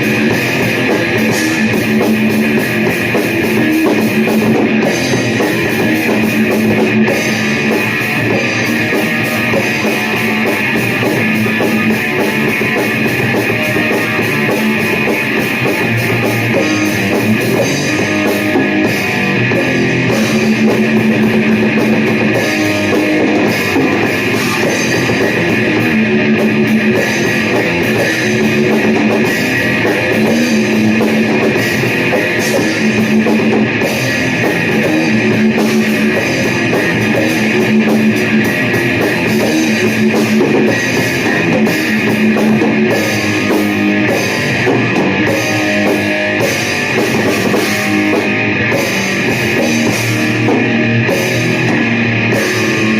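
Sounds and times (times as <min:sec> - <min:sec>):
heavy rock music: 0:00.0 - 0:52.9.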